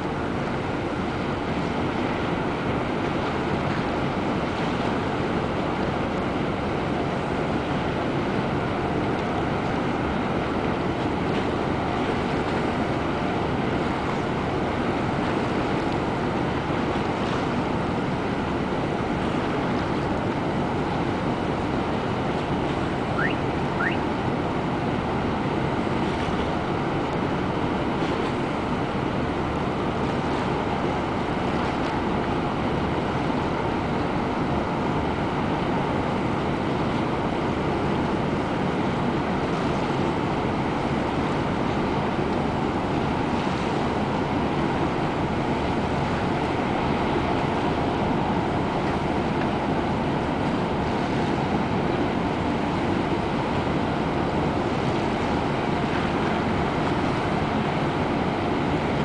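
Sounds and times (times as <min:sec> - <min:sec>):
ship engines droning: 0:00.0 - 0:59.0
water noise: 0:00.0 - 0:59.0.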